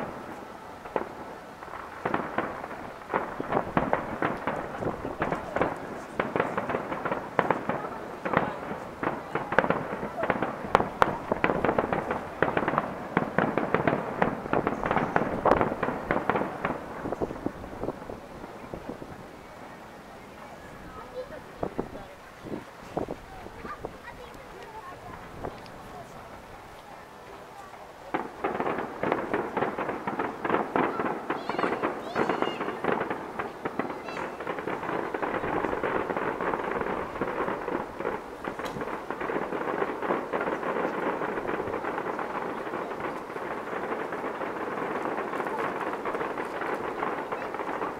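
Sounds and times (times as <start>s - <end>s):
fireworks popping and banging: 0.0s - 47.9s.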